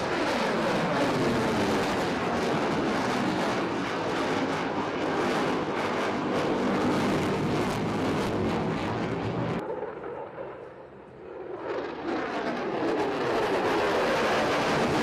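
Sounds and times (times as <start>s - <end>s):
loud jet noise with crackle: 0.0s - 15.0s.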